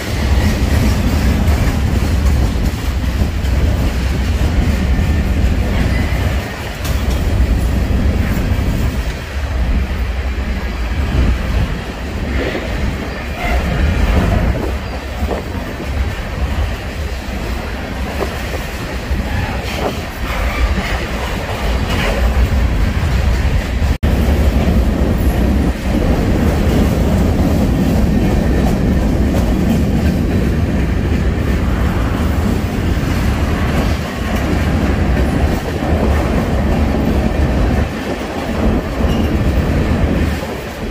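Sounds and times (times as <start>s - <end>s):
freight train rolling past: 0.0s - 40.9s.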